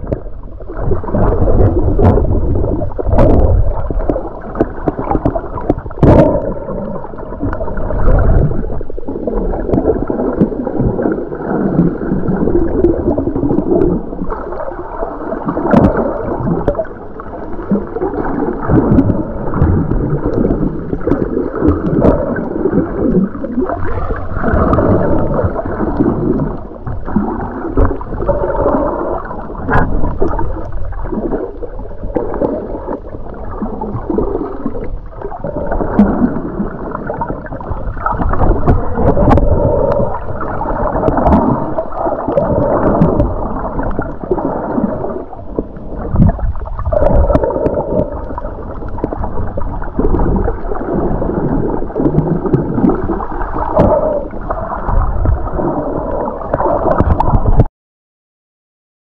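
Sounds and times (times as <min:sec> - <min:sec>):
muffled underwater gurgling: 0:00.0 - 0:57.7.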